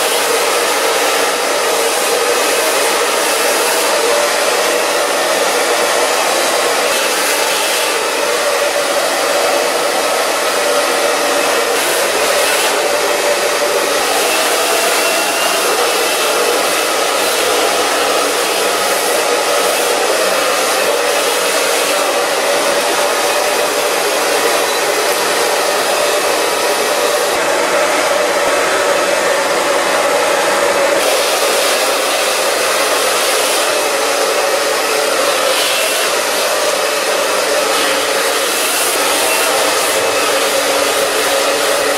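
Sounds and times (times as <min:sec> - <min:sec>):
hair dryer running: 0:00.0 - 0:41.9.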